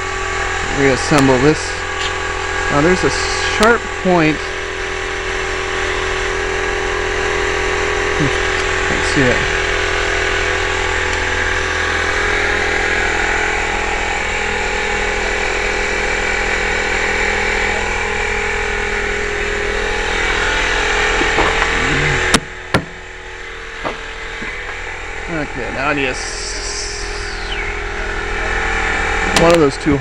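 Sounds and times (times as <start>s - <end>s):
metal lathe humming: 0.0s - 30.0s.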